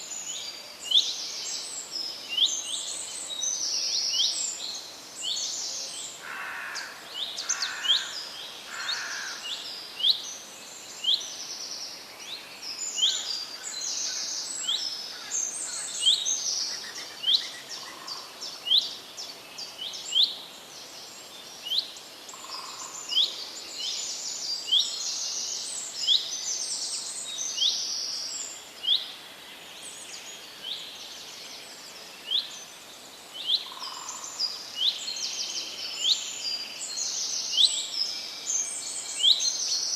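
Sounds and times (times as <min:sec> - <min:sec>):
birds twittering chirps: 0:00.0 - 0:39.9
faint outdoor hiss: 0:00.0 - 0:39.9.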